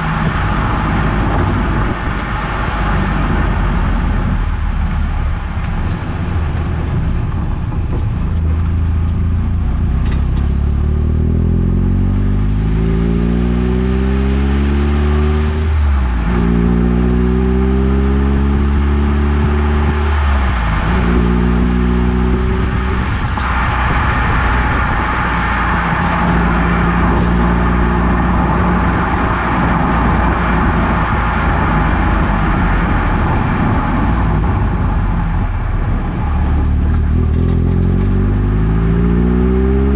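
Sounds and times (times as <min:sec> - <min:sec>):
car engine accelerating: 0:00.0 - 0:39.9
road and tyre noise: 0:00.0 - 0:39.9.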